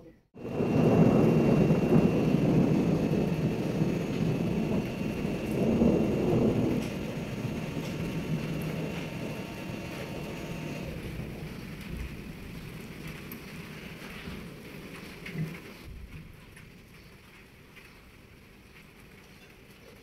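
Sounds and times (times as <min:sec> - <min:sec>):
thunder rumbling: 0:00.4 - 0:17.0
rain falling: 0:00.4 - 0:20.0.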